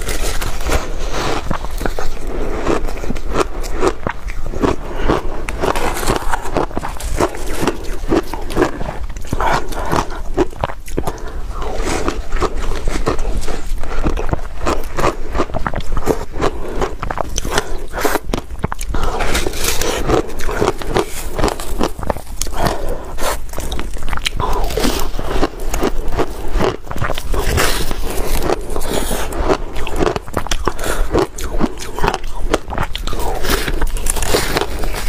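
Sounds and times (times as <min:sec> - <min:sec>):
chewing: 0:00.0 - 0:35.0
crunching frozen ice: 0:00.0 - 0:35.0.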